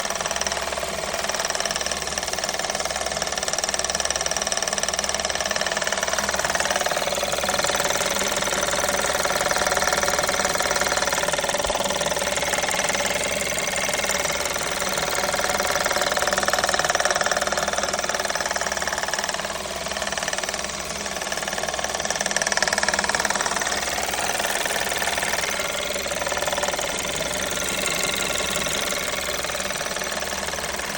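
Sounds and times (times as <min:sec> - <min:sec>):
engine knocking: 0:00.0 - 0:30.9
car engine running: 0:05.2 - 0:30.9.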